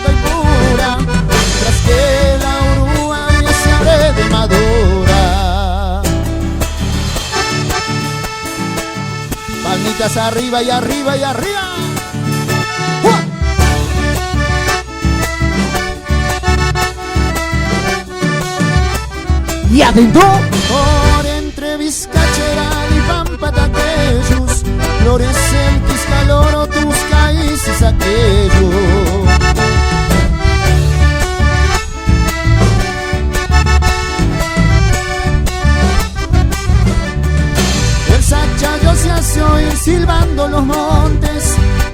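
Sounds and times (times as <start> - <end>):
accordion melody: 0.0 - 41.9
bass: 0.0 - 41.9
steady percussive beat: 0.0 - 41.9.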